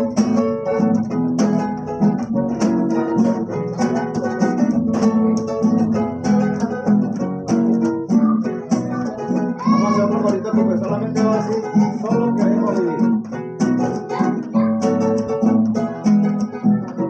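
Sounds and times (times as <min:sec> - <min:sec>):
acoustic guitar strumming: 0:00.0 - 0:17.0
person singing: 0:02.2 - 0:17.0.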